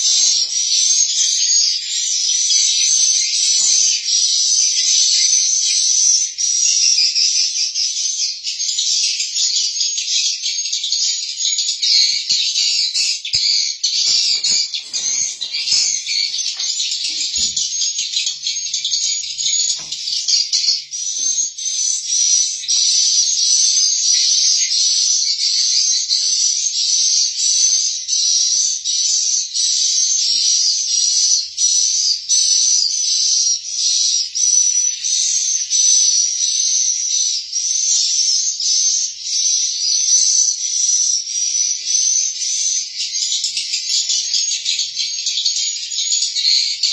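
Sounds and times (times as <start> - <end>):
swiftlets chirping and twittering: 0.0 - 10.2, 12.7 - 46.9.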